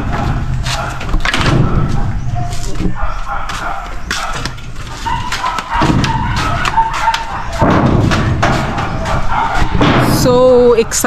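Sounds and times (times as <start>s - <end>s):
feet and hands striking ladder rungs: 0.0s - 10.6s.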